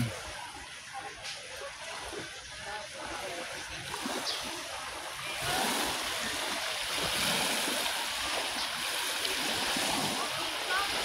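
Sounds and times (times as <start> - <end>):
sea water lapping at shore: 0.0 - 11.0.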